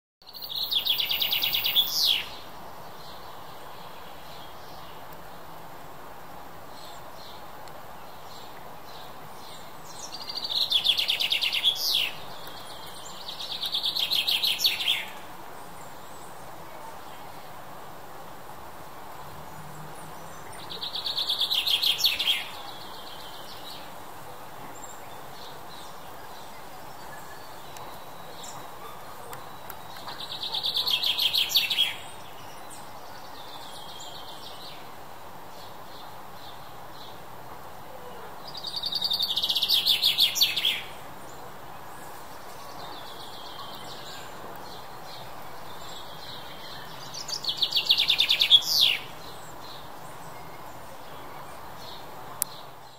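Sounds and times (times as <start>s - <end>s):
chaffinch singing trills: 0.2s - 5.0s, 8.1s - 17.5s, 19.9s - 24.0s, 24.7s - 37.1s, 38.4s - 52.9s
faint background hiss: 0.2s - 52.9s.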